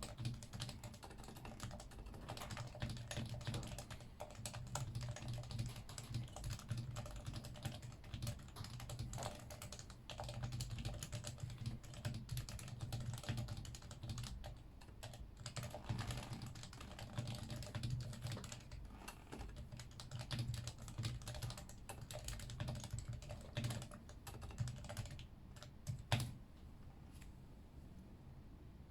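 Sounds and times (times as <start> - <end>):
fast typing on keyboard: 0.0 - 26.4.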